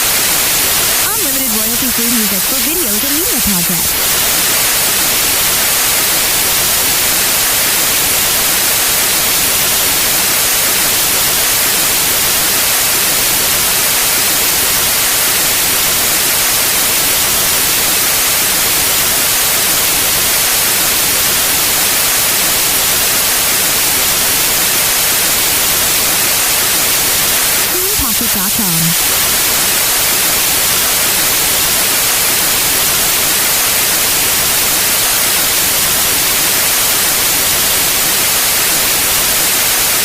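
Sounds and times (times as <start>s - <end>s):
white noise hiss: 0.0s - 40.0s.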